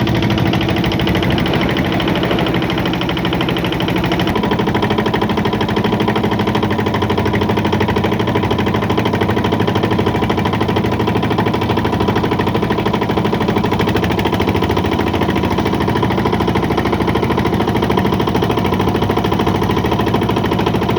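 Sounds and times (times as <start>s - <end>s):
engine running with fast pulsing: 0.0s - 20.9s.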